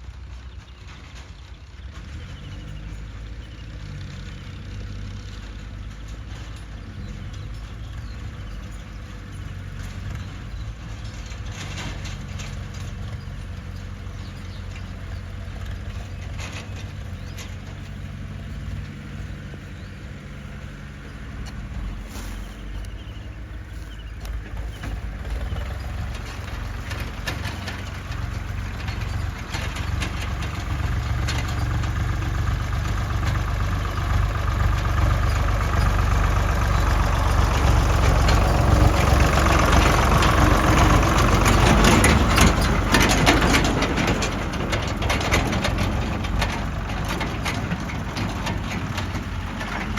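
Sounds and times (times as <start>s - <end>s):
diesel engine of heavy machinery: 0.0s - 49.9s
rattling clatter and knocks: 0.0s - 49.9s.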